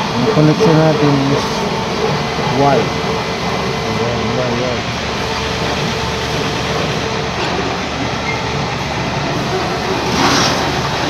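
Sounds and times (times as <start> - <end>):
loud mechanical noise: 0.0 - 11.0.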